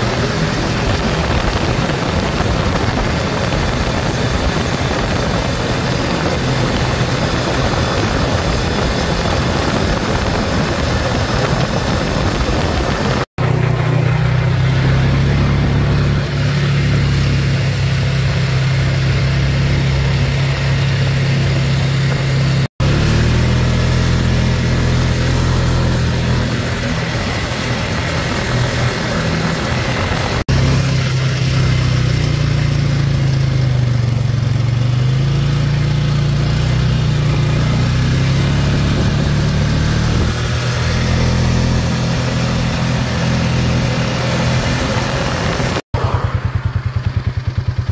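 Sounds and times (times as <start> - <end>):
atv engine droning: 0.0 - 47.9.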